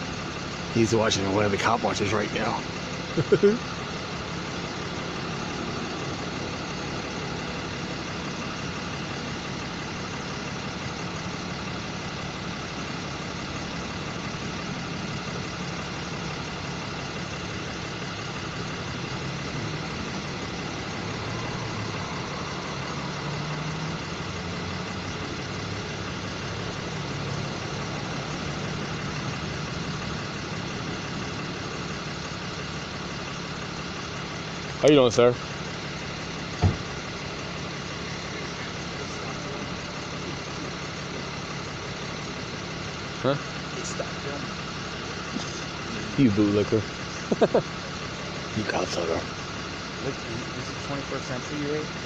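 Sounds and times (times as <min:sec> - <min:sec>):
vehicle engine idling: 0:00.0 - 0:52.0.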